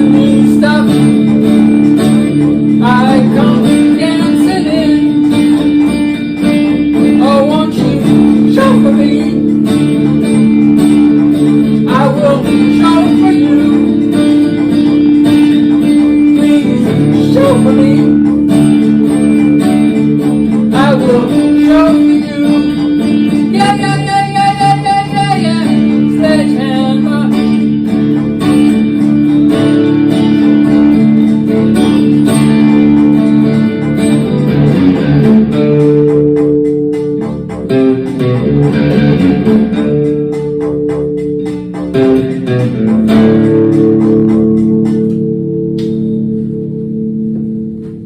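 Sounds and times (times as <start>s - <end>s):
guitar-led rock music: 0.0s - 48.0s.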